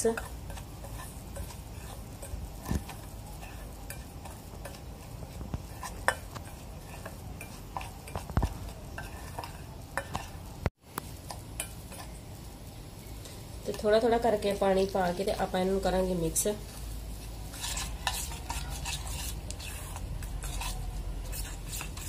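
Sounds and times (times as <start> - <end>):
spoon scraping dry flour: 0.0 - 12.2, 13.2 - 22.0.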